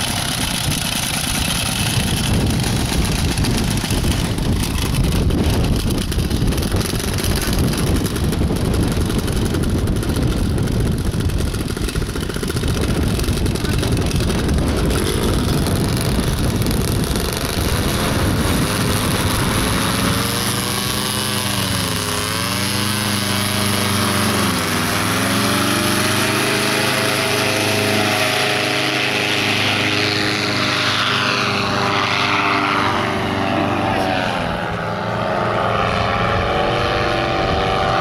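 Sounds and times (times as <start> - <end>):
paramotor engine running: 0.0 - 38.0
wind rumbling on microphone: 0.0 - 38.0.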